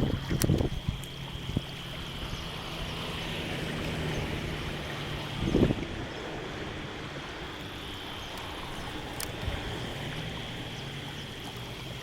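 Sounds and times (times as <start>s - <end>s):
flowing creek water: 0.0s - 12.0s.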